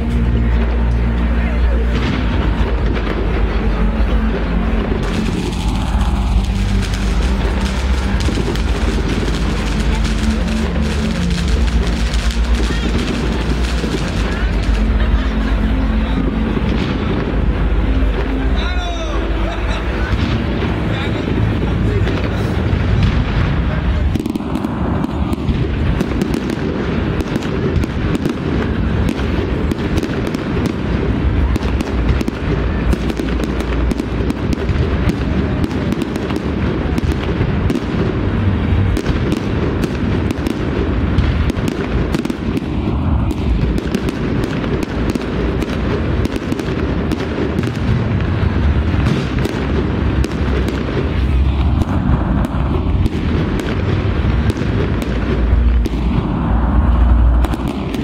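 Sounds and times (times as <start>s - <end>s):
fireworks bangs and crackles: 0.0s - 58.0s
heavy low booms: 0.0s - 58.0s.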